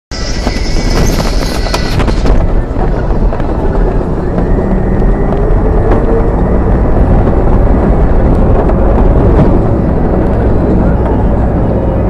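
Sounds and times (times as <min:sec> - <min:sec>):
vehicle road rumble: 0:00.1 - 0:12.0.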